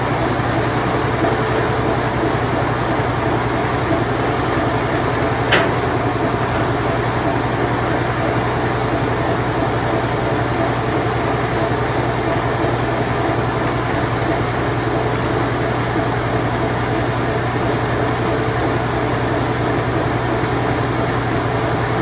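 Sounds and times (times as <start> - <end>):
washing machine spin cycle: 0.0 - 22.0.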